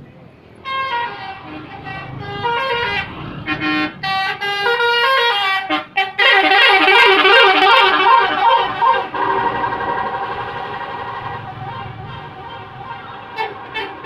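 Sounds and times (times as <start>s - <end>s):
bus musical horn playing: 0.6s - 14.0s.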